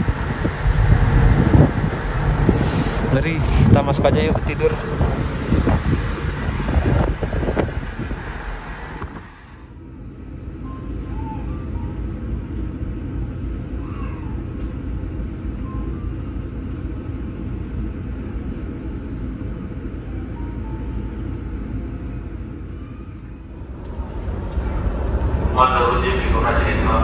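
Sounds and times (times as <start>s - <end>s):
ship engine rumble: 0.0s - 27.0s.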